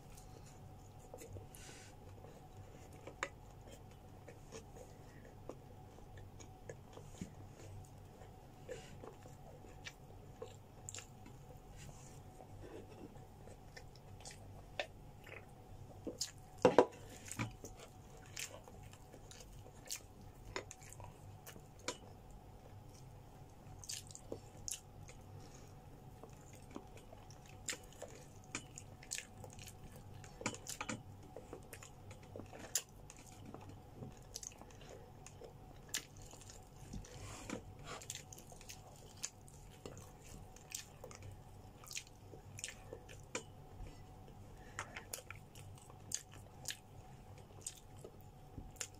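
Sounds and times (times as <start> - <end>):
faint steady hum: 0.0 - 48.9
chewing and biting: 2.1 - 11.5, 13.1 - 44.0, 44.7 - 48.9.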